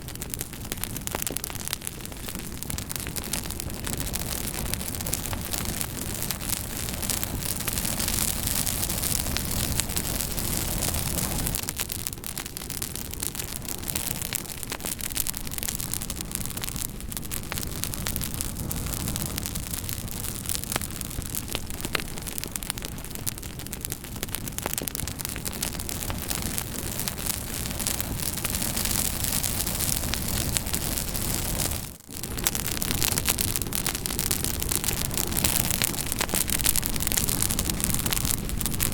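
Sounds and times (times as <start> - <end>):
campfire crackling and popping: 0.0 - 38.9
flames hissing and rumbling: 0.0 - 38.9.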